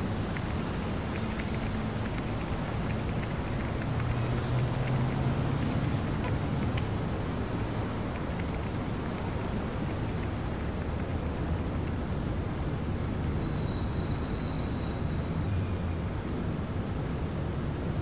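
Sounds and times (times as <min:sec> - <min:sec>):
distant traffic hum: 0:00.0 - 0:18.0.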